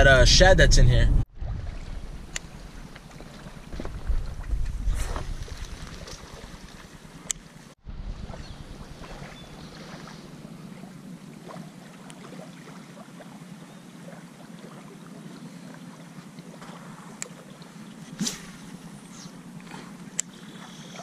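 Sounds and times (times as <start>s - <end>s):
wind: 0.0s - 21.0s
small waves lapping shore: 1.3s - 21.0s.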